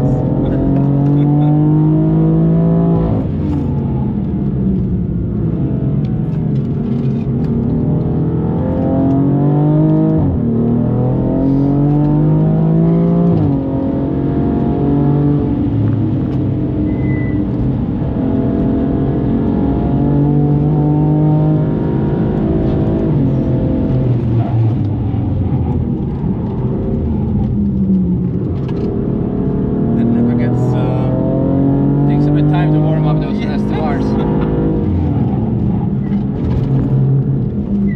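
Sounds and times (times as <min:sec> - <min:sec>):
car engine revving at full throttle: 0:00.0 - 0:37.9.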